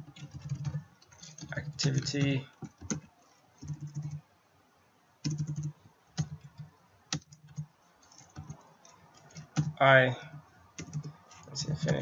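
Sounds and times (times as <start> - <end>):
computer keyboard typing: 0.0 - 4.2, 5.2 - 12.0.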